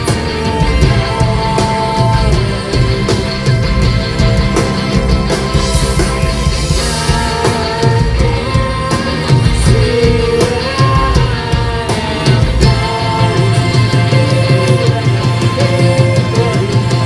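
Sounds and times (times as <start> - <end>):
electric guitars: 0.0 - 17.0
person singing: 0.0 - 17.0
steady drum beat: 0.0 - 17.0.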